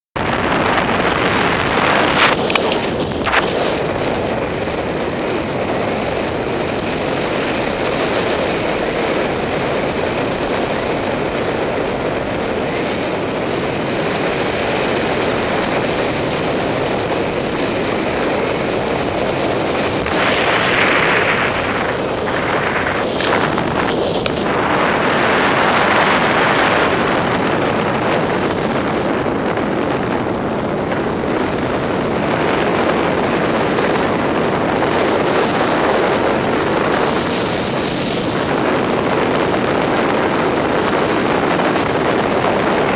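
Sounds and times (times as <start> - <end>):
wind rushing over microphone: 0.2 - 42.9.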